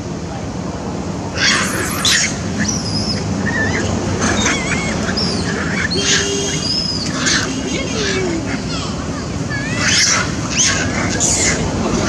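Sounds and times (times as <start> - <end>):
monkey screaming: 1.4 - 12.0
monkeys squeaking and chirping: 1.4 - 12.0.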